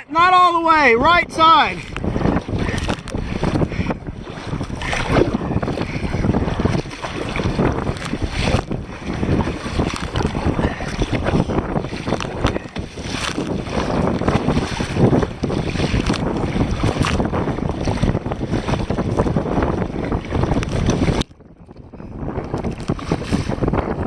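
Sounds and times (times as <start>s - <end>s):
water splashing: 0.0s - 21.3s, 22.5s - 24.0s
wind buffeting microphone: 0.0s - 24.0s.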